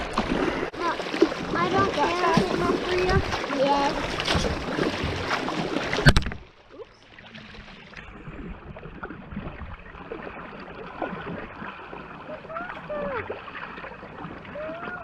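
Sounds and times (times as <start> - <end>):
kayak paddles splashing: 0.0 - 15.0.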